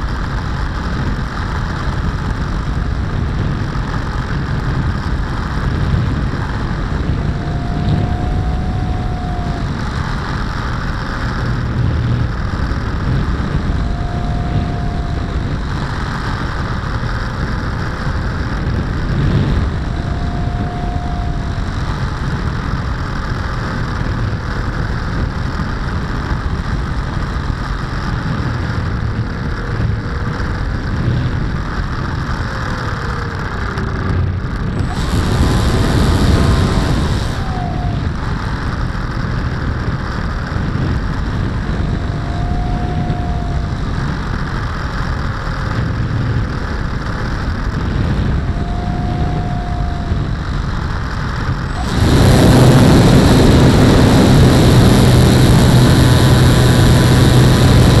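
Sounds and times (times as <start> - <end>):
wind rush over microphone: 0.0 - 58.0
model plane motor droning: 3.9 - 58.0.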